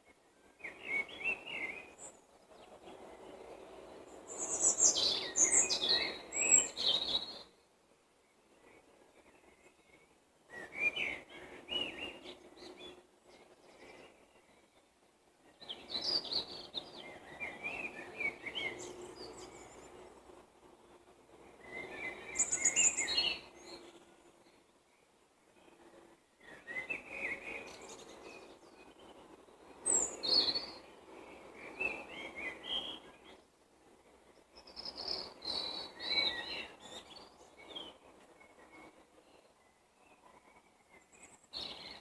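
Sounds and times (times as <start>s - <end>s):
songbird chirping: 0.0s - 33.6s, 34.2s - 42.0s.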